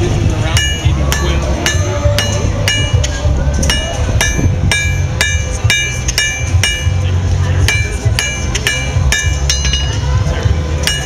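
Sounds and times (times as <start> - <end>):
hammer striking iron on anvil: 0.4 - 10.2, 10.8 - 11.0.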